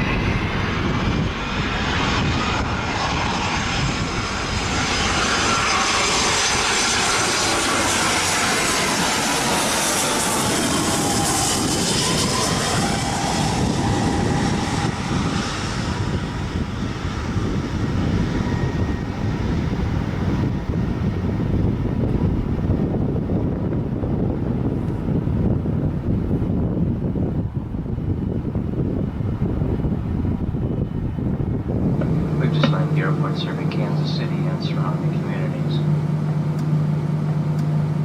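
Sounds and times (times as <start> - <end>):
jet engines roaring: 0.0 - 38.0
runway rumble: 0.0 - 38.0.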